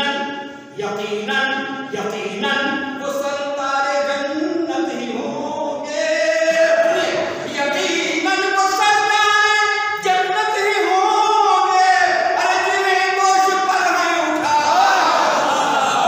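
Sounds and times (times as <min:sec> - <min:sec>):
man singing unaccompanied: 0:00.8 - 0:15.0.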